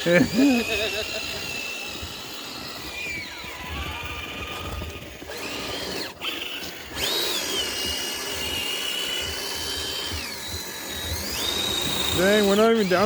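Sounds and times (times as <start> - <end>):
electric motor and gear whine: 0.0 - 13.0.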